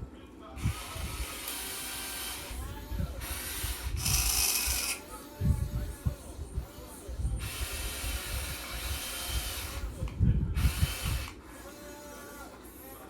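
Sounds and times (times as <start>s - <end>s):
electric motors and gears whirring: 0.6s - 13.0s.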